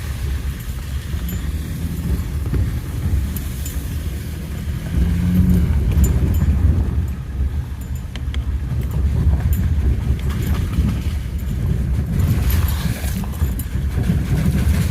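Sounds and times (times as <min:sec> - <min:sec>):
vehicle rumbling on dirt track: 0:00.0 - 0:14.9.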